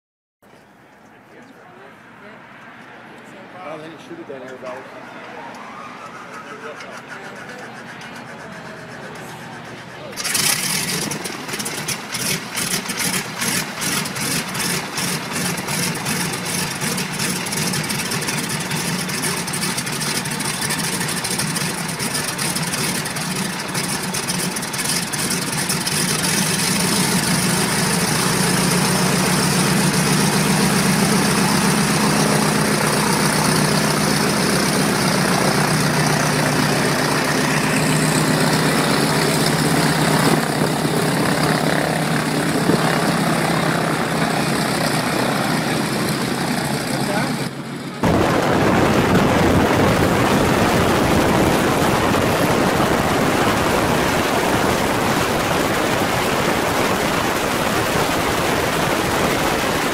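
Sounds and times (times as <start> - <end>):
radial aircraft engine running: 5.2 - 59.9.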